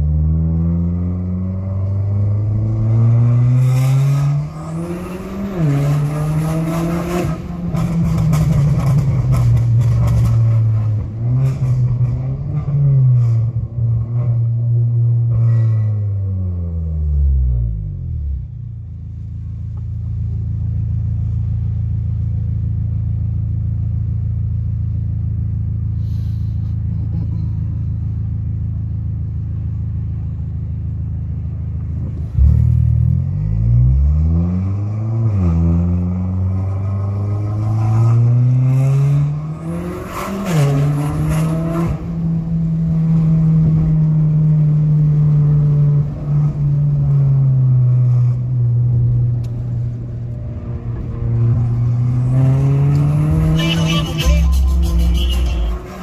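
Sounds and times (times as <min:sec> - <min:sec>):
car engine idling and accelerating: 0:00.0 - 0:56.0.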